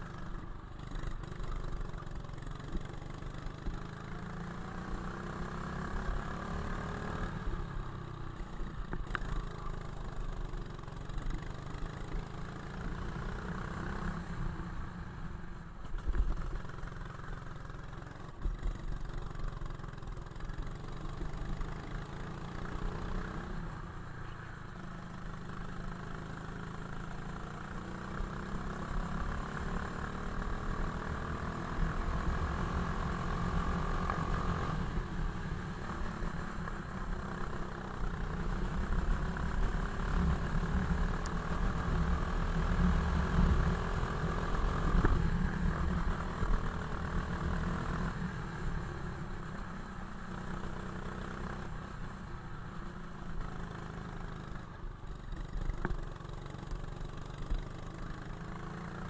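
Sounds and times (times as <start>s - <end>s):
go-kart engine: 0.0s - 59.0s.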